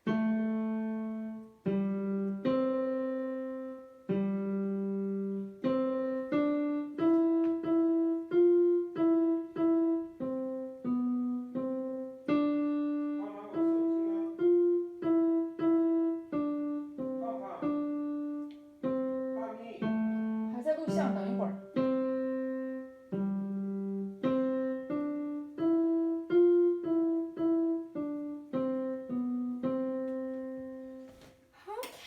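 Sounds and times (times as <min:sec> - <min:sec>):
piano melody: 0:00.0 - 0:31.5.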